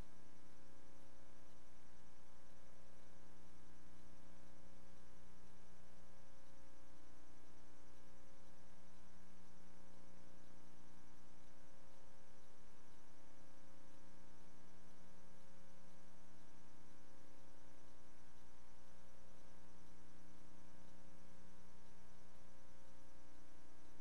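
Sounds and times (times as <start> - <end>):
electrical hum with hiss: 0.0 - 24.0.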